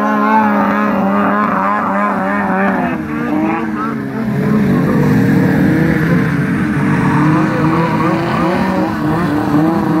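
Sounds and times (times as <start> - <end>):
snowmobile engine at high revs: 0.0 - 10.0.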